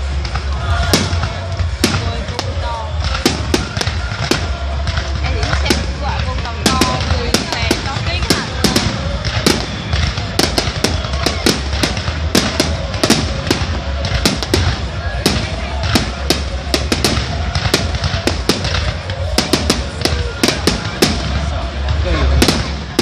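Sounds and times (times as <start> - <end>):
fireworks bangs and cracks: 0.0 - 23.0
steady low rumble: 0.0 - 23.0.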